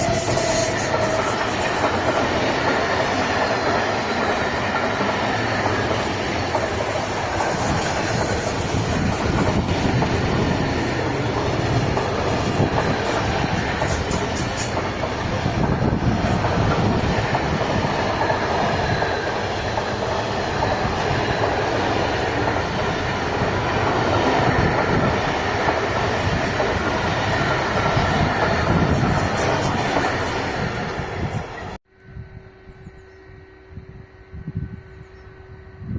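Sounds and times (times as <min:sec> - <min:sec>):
train wheels rumbling on rails: 0:00.0 - 0:31.8.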